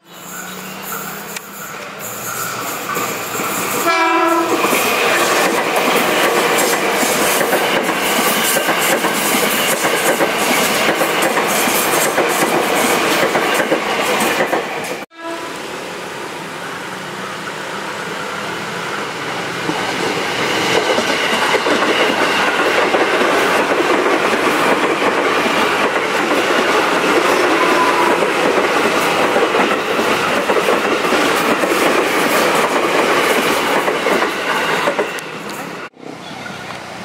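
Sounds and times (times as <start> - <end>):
electric train passing: 0.0 - 37.0.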